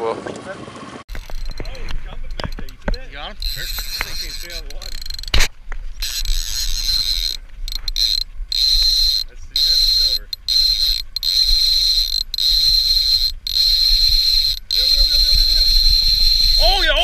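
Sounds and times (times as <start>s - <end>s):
fishing reel whirring: 1.1s - 17.0s.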